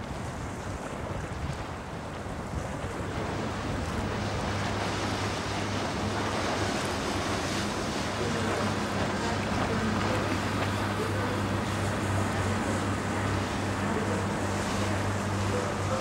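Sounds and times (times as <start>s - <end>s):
boat engine drone: 0.0s - 16.0s
river water: 0.0s - 16.0s
wind buffeting microphone: 0.0s - 16.0s.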